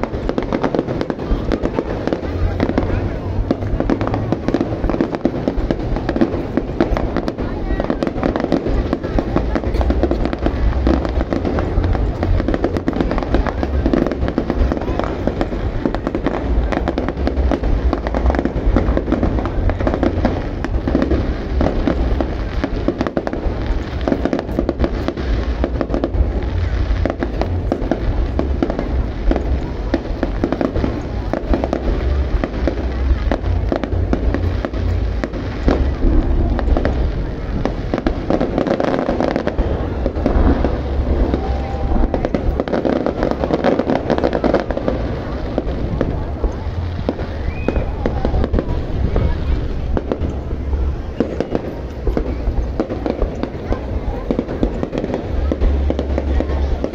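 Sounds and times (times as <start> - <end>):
fireworks booms and cracks: 0.0 - 56.9.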